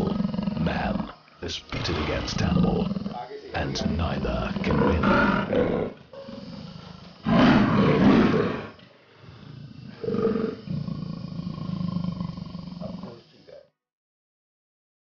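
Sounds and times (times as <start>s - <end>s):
big cat roaring: 0.0s - 13.2s.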